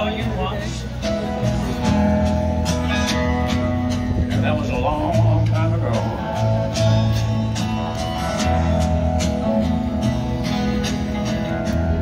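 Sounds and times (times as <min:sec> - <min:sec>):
acoustic guitar: 0:00.0 - 0:12.0
bass line: 0:00.0 - 0:12.0
drums: 0:00.0 - 0:12.0.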